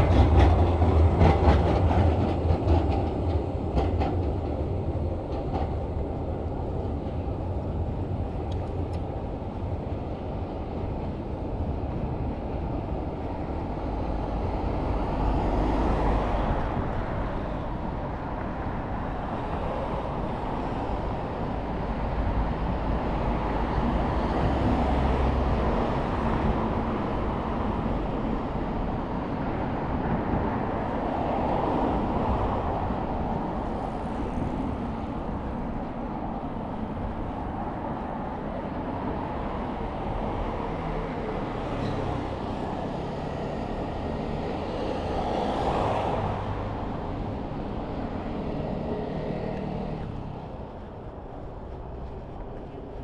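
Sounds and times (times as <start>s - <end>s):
road traffic hum: 0.0s - 53.0s
vehicles passing by: 0.0s - 53.0s.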